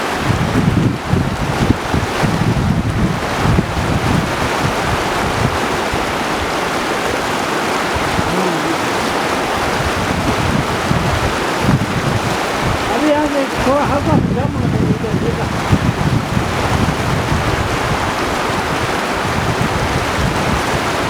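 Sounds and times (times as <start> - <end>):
river rushing: 0.0 - 21.0
wind buffeting microphone: 0.0 - 21.0.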